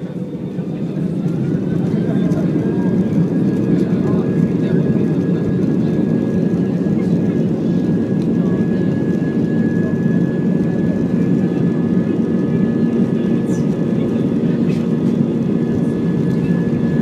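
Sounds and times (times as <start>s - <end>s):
high engine whine: 0.0s - 17.0s
jet engines rumbling: 0.0s - 17.0s.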